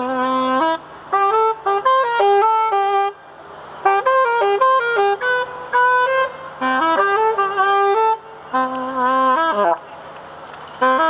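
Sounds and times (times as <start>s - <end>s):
solo saxophone melody: 0.0s - 9.8s, 10.8s - 11.0s.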